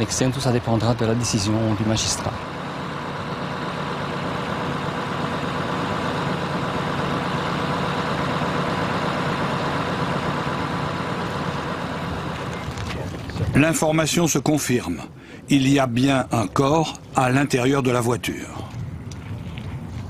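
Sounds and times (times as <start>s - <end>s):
faint steady hum: 0.0s - 20.0s
heavy engine idling: 0.0s - 20.0s.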